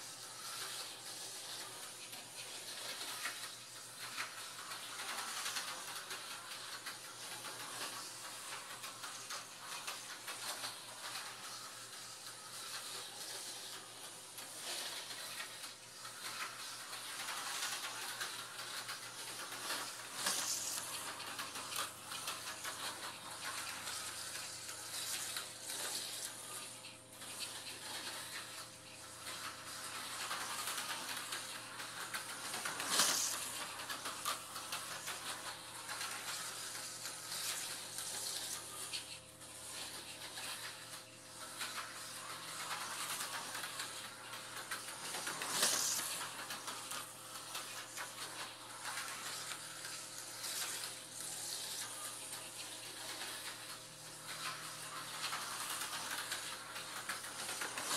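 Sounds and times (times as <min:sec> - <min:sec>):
slot car motor whirring: 0:00.0 - 0:57.9.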